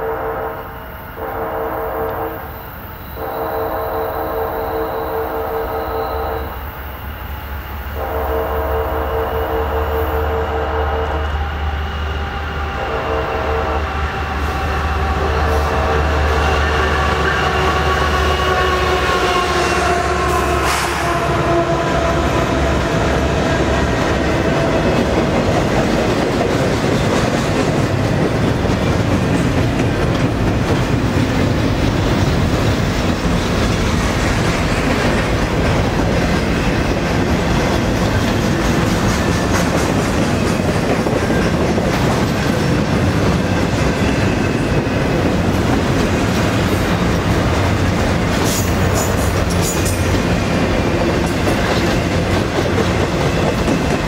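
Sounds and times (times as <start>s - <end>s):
diesel locomotive engine: 0.0s - 54.0s
train wheels rumbling on rail: 0.0s - 54.0s.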